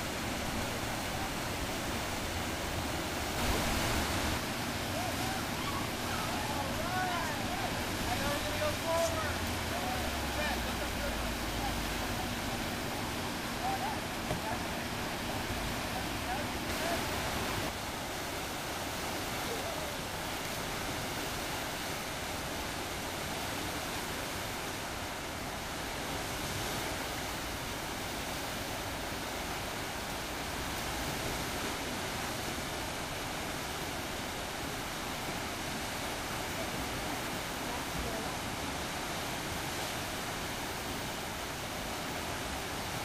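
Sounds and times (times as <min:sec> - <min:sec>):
river rapids rushing: 0:00.0 - 0:43.0.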